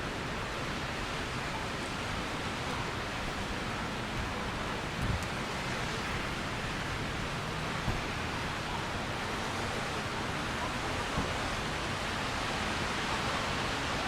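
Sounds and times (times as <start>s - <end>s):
rain hissing on wet street: 0.0s - 14.0s.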